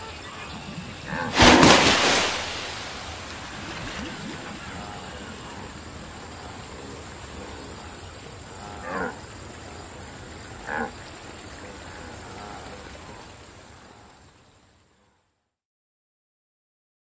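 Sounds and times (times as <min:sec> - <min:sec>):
outdoor background hiss: 0:00.0 - 0:15.6.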